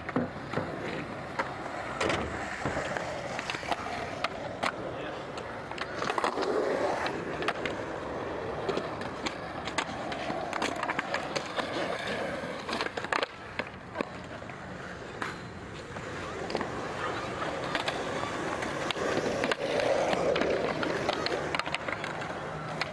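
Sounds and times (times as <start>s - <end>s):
skateboard clacking: 0.0s - 22.9s
skateboard wheels rolling on asphalt: 0.0s - 22.9s.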